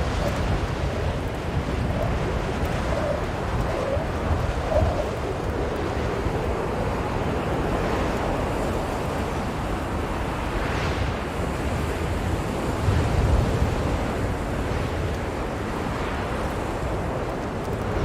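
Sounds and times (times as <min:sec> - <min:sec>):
blizzard wind blowing hard: 0:00.0 - 0:18.0.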